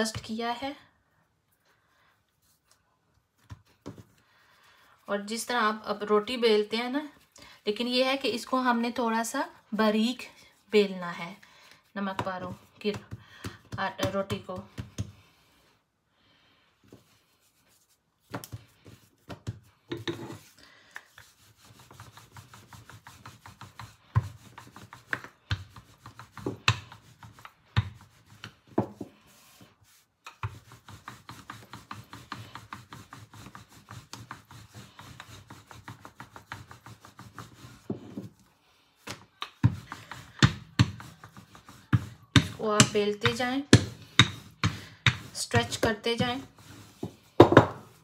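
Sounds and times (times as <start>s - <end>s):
rolling pin rolling dough: 2.4s - 4.2s, 10.0s - 15.7s, 16.8s - 48.0s.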